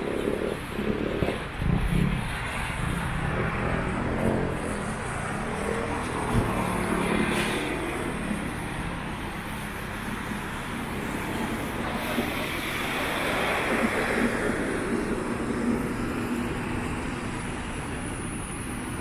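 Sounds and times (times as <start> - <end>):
traffic on wet roads: 0.0 - 19.0.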